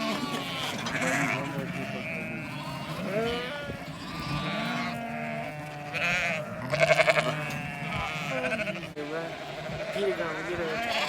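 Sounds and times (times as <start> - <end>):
loud quavering bleat: 0.0 - 11.0
sheep and lambs bleating: 0.0 - 11.0.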